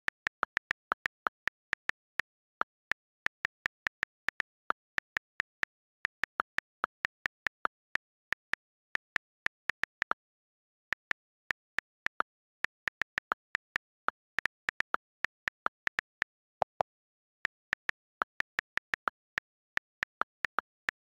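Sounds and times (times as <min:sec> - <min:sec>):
on-screen keyboard clicks: 0:00.0 - 0:21.0.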